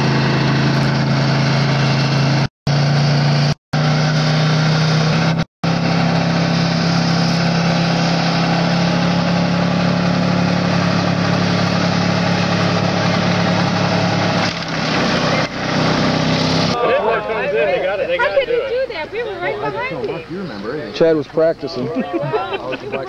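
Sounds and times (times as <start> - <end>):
car engine high drone: 0.0 - 18.7.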